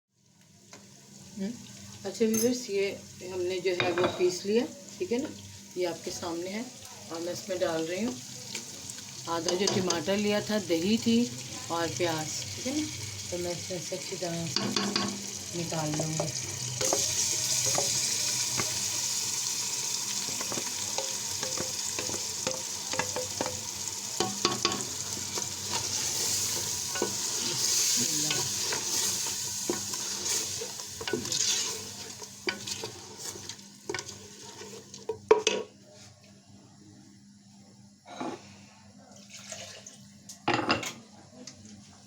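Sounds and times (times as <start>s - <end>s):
hot oil sizzling in a pot: 0.2s - 35.7s.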